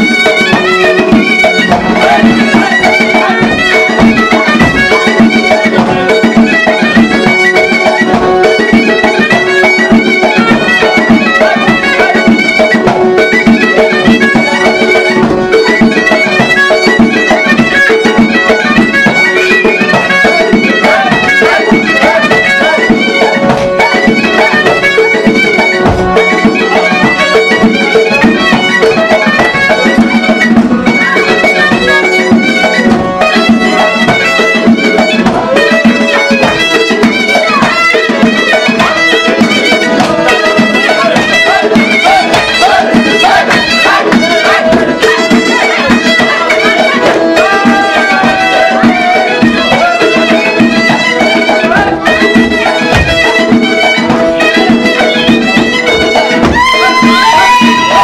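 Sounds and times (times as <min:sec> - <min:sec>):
folk dance music with accordion: 0:00.0 - 0:58.0.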